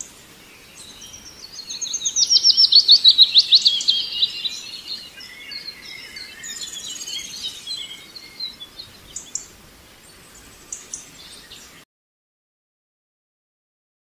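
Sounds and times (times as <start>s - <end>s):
birds chirping and twittering: 0.0s - 11.8s
faint outdoor background noise: 0.0s - 11.9s.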